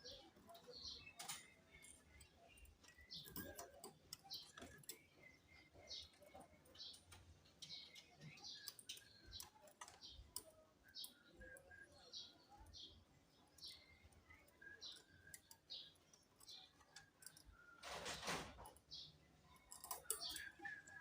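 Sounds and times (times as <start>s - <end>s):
faint chirps: 0.0s - 17.9s, 18.7s - 21.0s.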